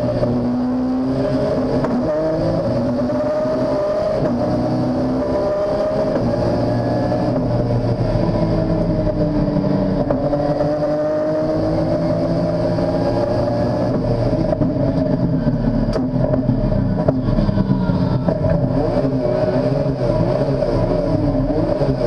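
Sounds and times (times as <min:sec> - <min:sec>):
race car engine running hard: 0:00.0 - 0:22.0.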